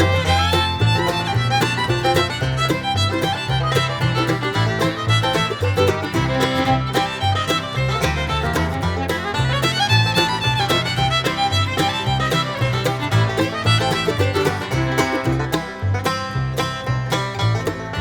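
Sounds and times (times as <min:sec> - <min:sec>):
fiddle: 0:00.0 - 0:18.0
steady bass beat: 0:00.0 - 0:18.0.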